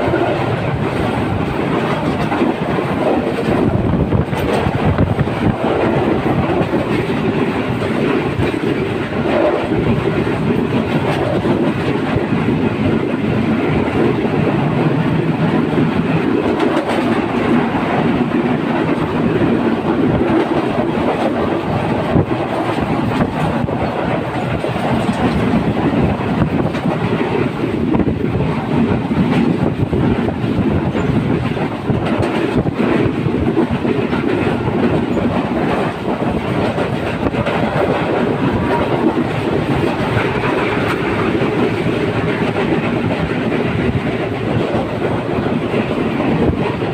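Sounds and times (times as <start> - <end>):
train carriages rumbling: 0.0 - 46.9
wheels clacking over rail joints: 0.0 - 46.9.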